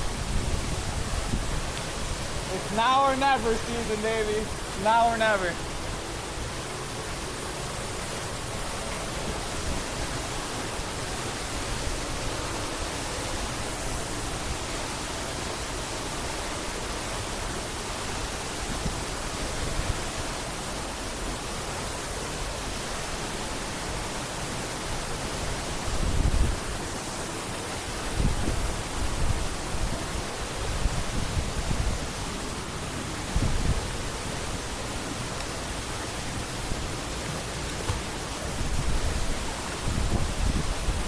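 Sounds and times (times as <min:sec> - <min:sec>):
waterfall pouring into pool: 0:00.0 - 0:41.0.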